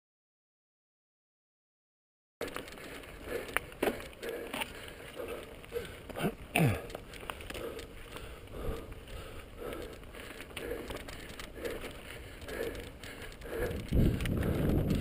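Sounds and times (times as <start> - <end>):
bike rattling and clicking: 2.4 - 15.0
bike tyres crunching over gravel: 2.4 - 15.0.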